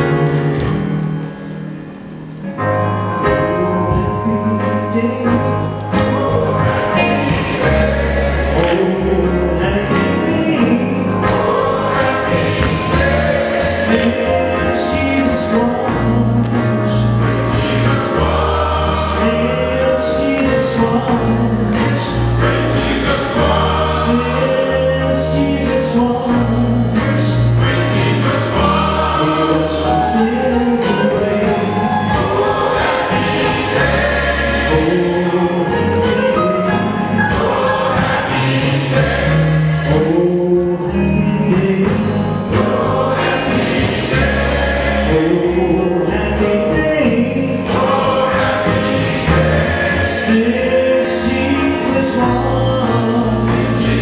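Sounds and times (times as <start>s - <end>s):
bass: 0.0s - 54.0s
gospel choir singing: 2.8s - 54.0s.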